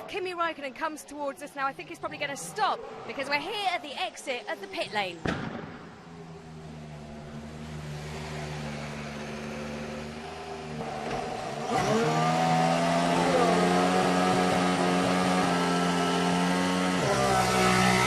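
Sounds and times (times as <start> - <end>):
racing car engine revving: 1.6 - 18.0.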